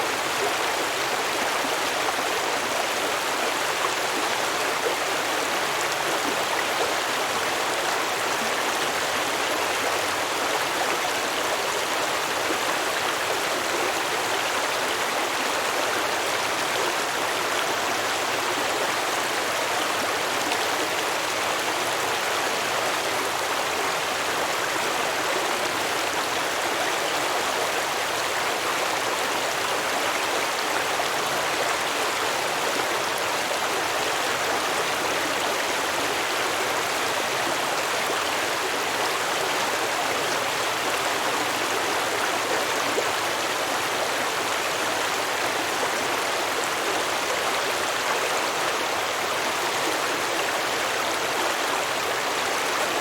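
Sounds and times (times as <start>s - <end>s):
stream babbling over rocks: 0.0s - 53.0s.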